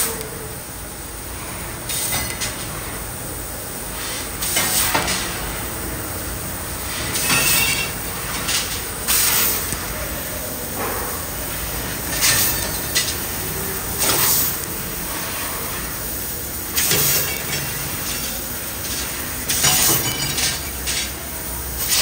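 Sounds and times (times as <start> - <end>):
laser cutter hissing: 0.0 - 22.0.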